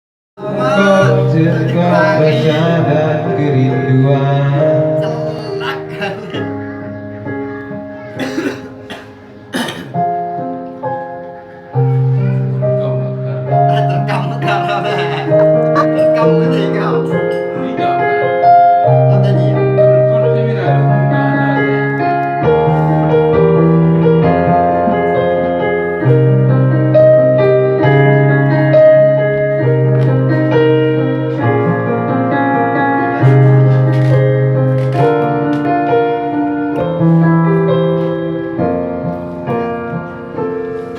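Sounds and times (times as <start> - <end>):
piano-like keyboard chords: 0.4 - 40.9.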